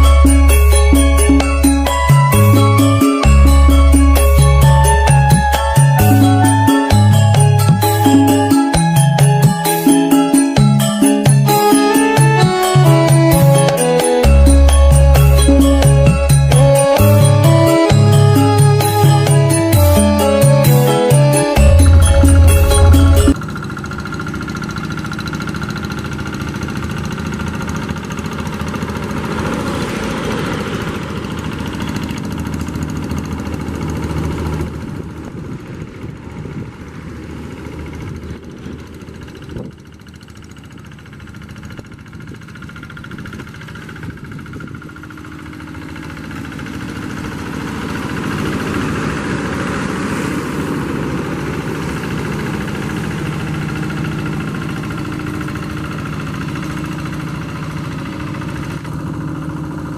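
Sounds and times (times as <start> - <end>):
hand tractor diesel engine running: 0.0 - 59.9.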